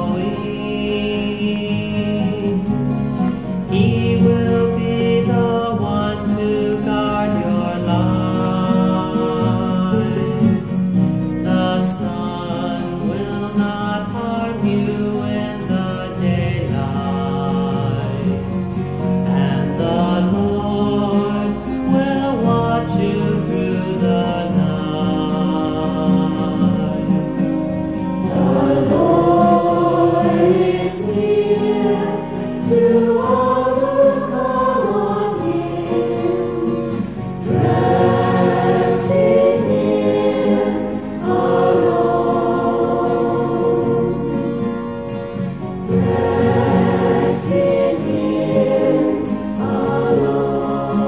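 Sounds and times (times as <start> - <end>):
church choir singing: 0.0 - 51.0.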